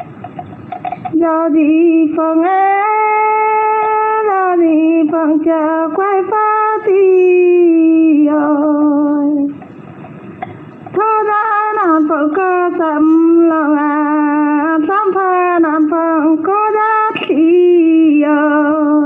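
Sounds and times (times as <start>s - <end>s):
woman singing folk song: 1.1s - 9.6s, 10.9s - 19.0s.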